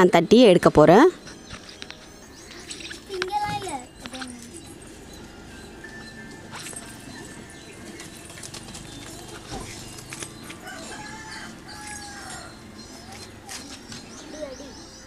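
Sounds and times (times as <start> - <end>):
small birds chirping: 1.2 - 15.0.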